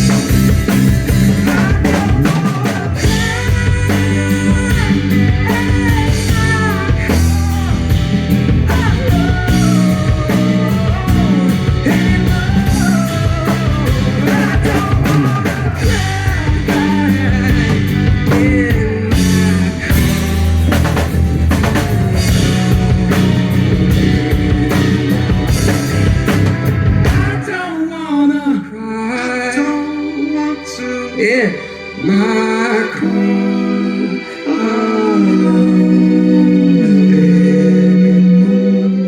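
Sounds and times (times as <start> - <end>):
rock band playing live: 0.0 - 39.0.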